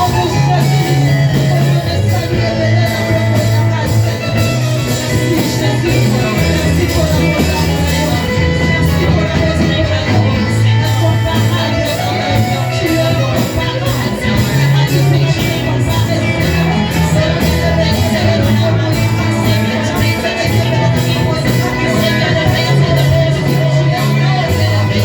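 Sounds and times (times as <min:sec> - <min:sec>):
bass line: 0:00.0 - 0:25.0
guitar: 0:00.0 - 0:25.0
steady drumbeat: 0:00.0 - 0:25.0
voices singing: 0:00.0 - 0:25.0.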